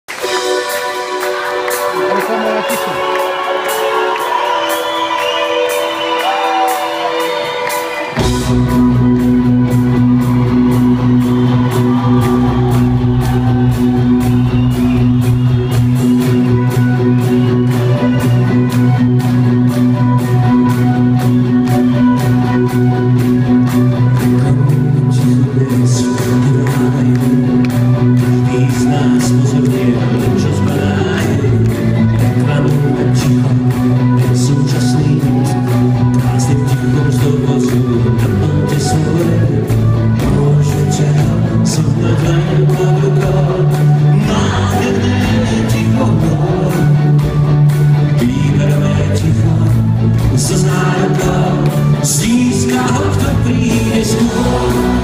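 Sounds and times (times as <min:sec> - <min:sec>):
drums keeping a steady beat: 0:00.1 - 0:55.0
guitar: 0:00.1 - 0:55.0
live band playing through pa: 0:00.1 - 0:55.0
heavy bass: 0:08.1 - 0:55.0.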